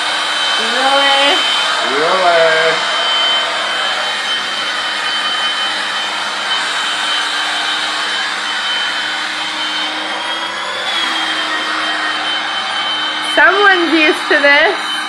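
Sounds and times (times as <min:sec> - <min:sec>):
air pump whining: 0:00.0 - 0:15.0.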